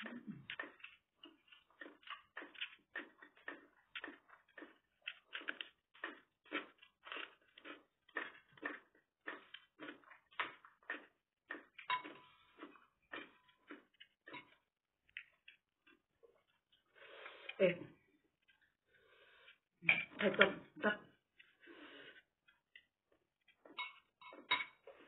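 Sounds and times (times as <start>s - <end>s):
person chewing food: 0.0s - 19.8s, 21.1s - 25.0s.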